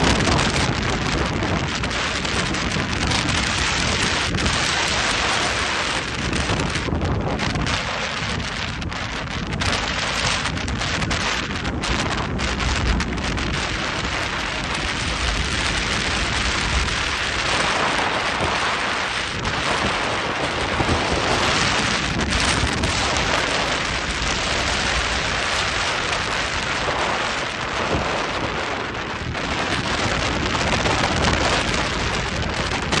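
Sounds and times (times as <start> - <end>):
heavy rain: 0.0 - 33.0
wind buffeting microphone: 0.0 - 33.0.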